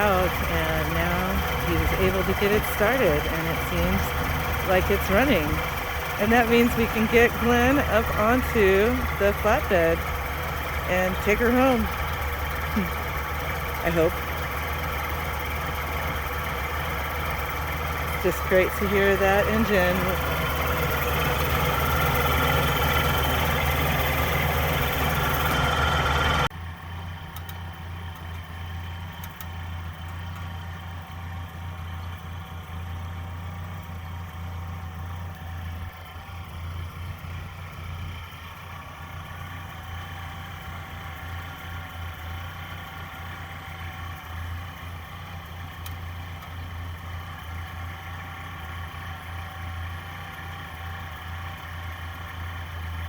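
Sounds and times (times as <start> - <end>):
tractor engine idling: 0.0 - 53.0.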